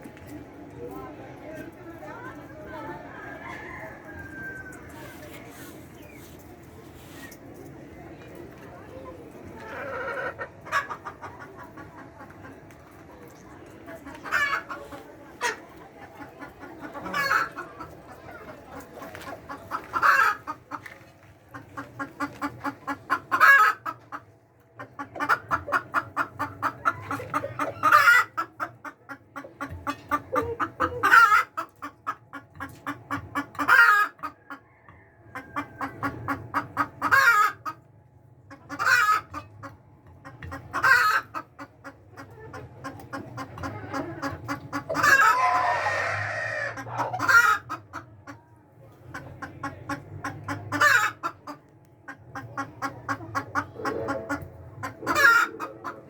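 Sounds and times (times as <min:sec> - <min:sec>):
hens clucking and squawking: 0:00.0 - 0:56.0.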